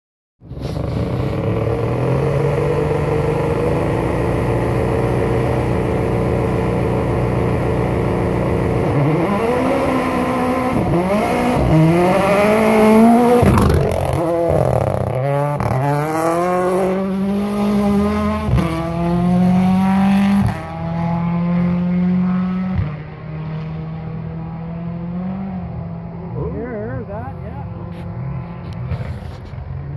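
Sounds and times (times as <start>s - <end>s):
rally car engine accelerating: 0.4s - 29.9s.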